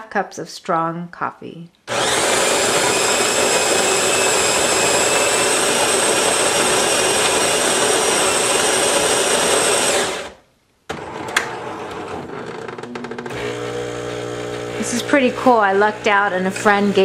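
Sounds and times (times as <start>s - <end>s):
coffee grinder whirring: 1.9s - 10.4s, 11.8s - 17.0s
machine hum: 1.9s - 17.0s.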